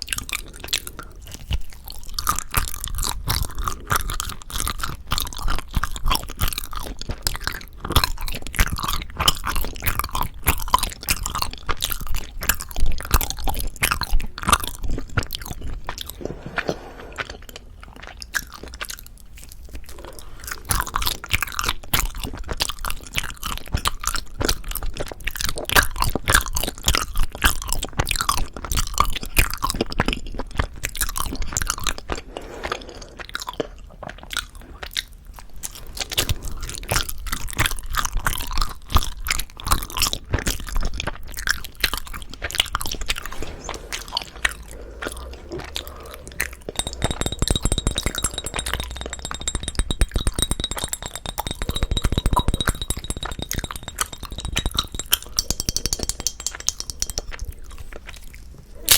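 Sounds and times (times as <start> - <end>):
chewing with mouth clicks: 0.0 - 49.1, 50.1 - 58.9.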